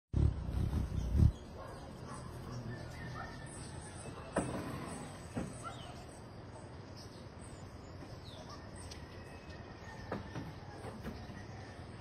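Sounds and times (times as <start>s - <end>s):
low steady background noise: 0.7s - 12.0s.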